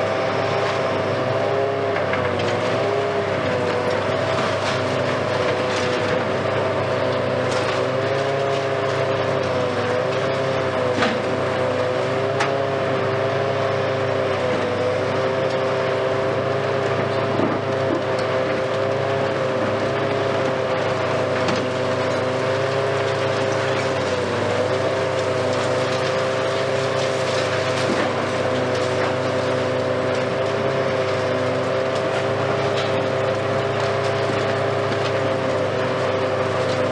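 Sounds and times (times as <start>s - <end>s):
excavator engine and hydraulics hum: 0.0s - 36.9s.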